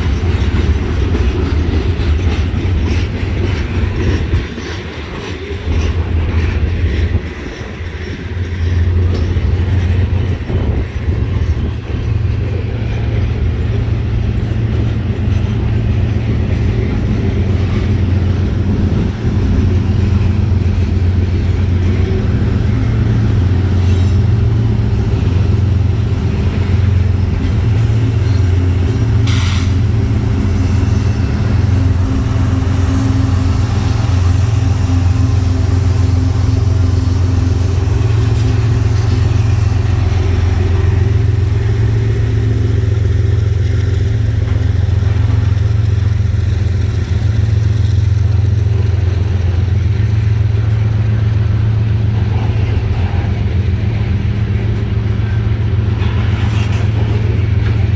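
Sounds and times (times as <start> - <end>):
freight train rolling on rails: 0.0 - 57.9.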